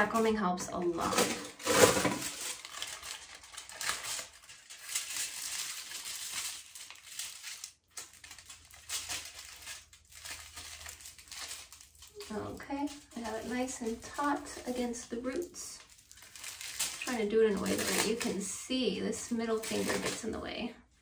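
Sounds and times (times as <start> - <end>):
foil crinkling: 0.0 - 20.3.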